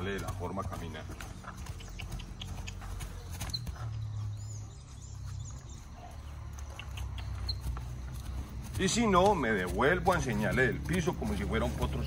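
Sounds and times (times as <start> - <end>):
horse hooves on grass: 0.0 - 12.0.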